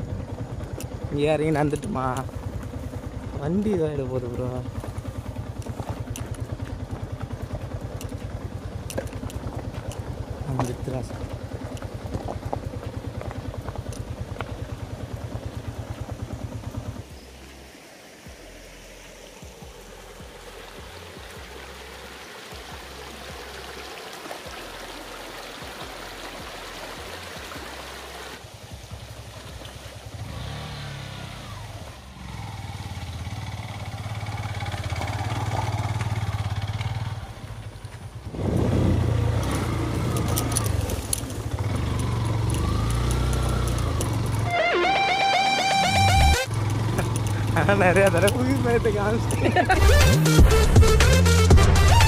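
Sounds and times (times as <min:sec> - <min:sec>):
motorcycle engine running: 0:00.0 - 0:23.8, 0:24.6 - 0:52.0.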